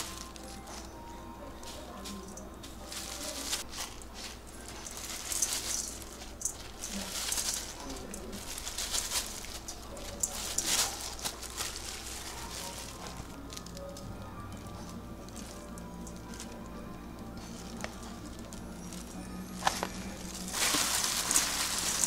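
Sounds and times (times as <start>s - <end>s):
plastic gloves crinkling: 0.0s - 22.0s.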